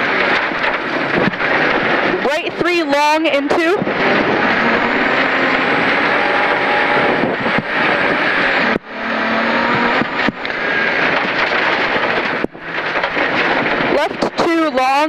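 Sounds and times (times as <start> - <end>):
rally car engine running hard: 0.0 - 15.0
road and tyre noise: 0.0 - 15.0.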